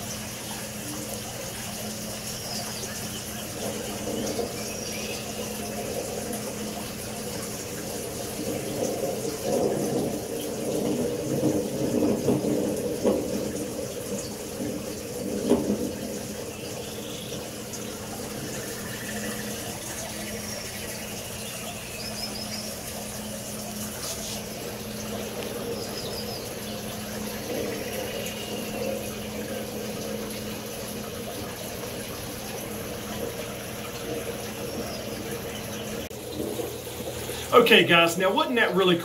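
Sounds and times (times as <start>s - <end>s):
low steady hum: 0.0s - 39.0s
rush like running water: 0.0s - 39.0s.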